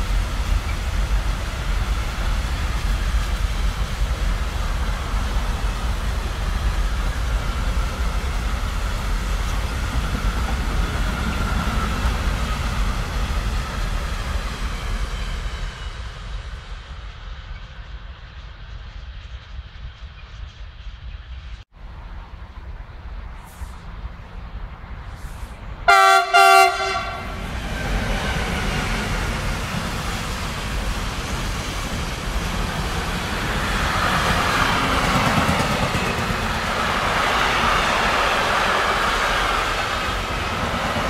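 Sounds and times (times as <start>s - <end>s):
freight train wheels rumbling: 0.0s - 41.0s.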